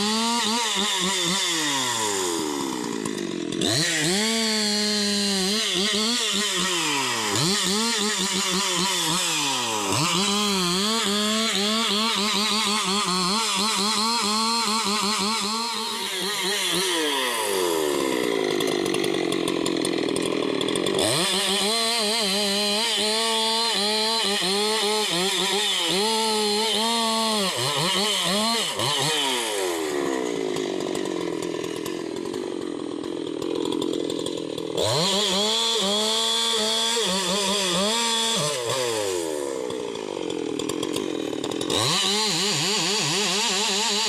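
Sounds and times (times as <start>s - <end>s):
chainsaw cutting logs: 0.0s - 44.0s.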